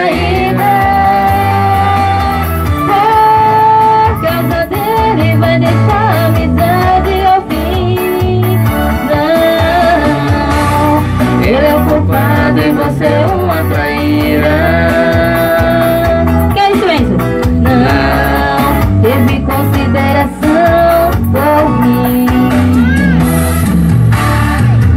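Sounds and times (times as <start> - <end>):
woman singing into microphone: 0.0 - 23.3
backing music: 0.0 - 24.9.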